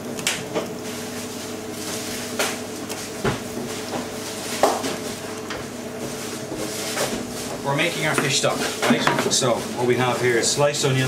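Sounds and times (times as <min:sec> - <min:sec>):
kitchen equipment hum: 0:00.0 - 0:11.0.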